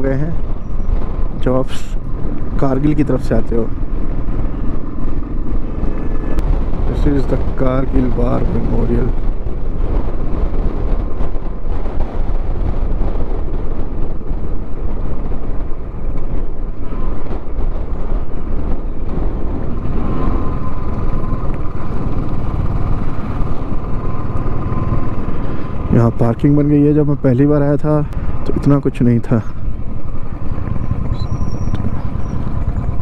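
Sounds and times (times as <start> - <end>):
road and wind noise: 0.0 - 33.0.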